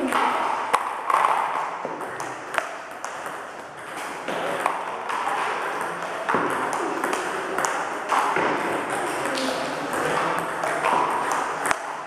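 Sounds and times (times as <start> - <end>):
table tennis balls clicking: 0.0 - 12.0.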